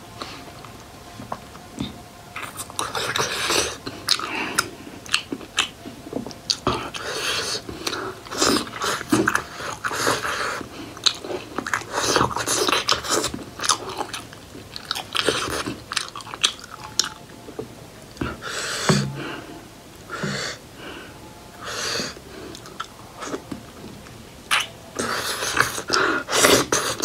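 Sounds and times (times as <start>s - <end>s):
wet chewing: 0.2s - 19.2s, 22.0s - 27.0s.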